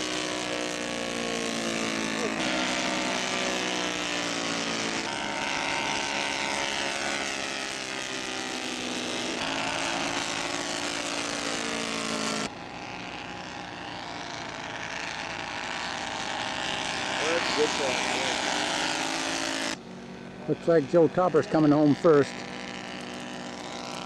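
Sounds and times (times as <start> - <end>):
model airplane engines droning: 0.0 - 24.0.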